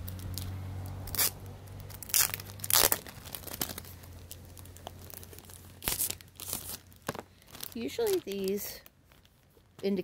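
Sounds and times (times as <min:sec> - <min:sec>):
plastic wrap crinkling and tearing: 0:00.0 - 0:10.0.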